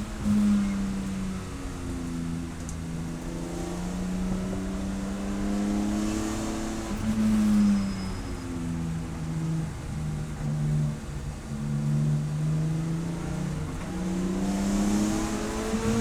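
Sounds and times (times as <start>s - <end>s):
race car engine at speed: 0.0s - 16.0s.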